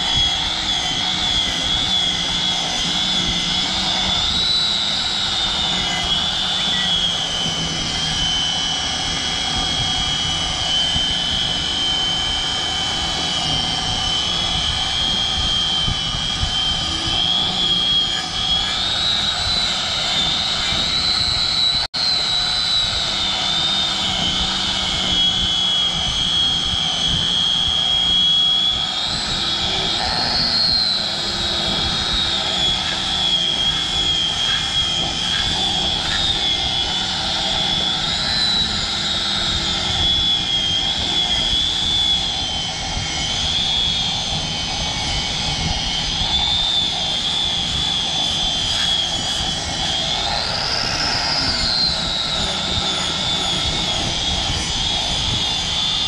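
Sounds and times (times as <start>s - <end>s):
angle grinder cutting rubber: 0.0s - 56.0s.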